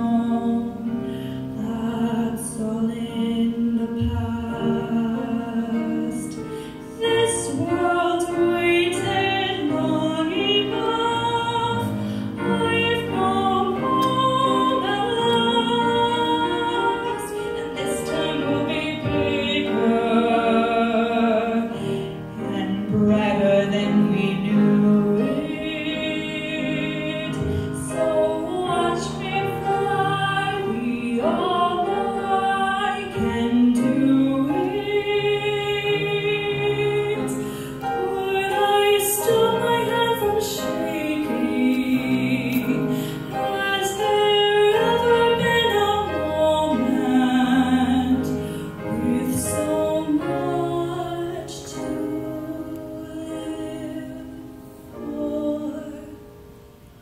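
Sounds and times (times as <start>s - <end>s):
piano accompaniment: 0.0s - 57.0s
woman singing operatically: 7.0s - 21.8s, 22.4s - 37.4s, 38.0s - 54.4s.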